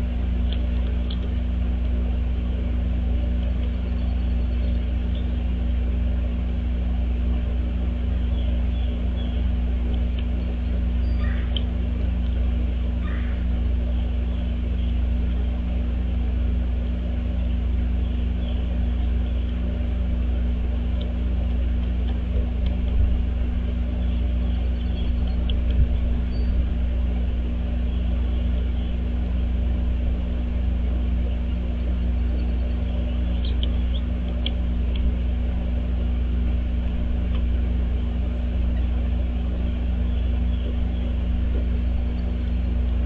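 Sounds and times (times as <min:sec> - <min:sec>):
constant hum: 0:00.0 - 0:43.0
low rumble: 0:00.0 - 0:43.0
small birds chirping: 0:00.0 - 0:43.0.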